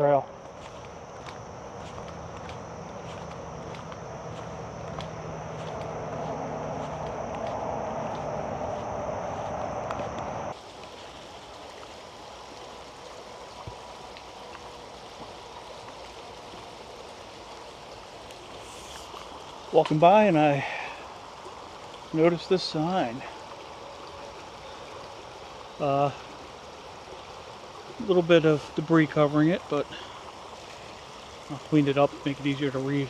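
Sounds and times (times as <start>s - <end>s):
creek water rushing: 0.0s - 33.0s.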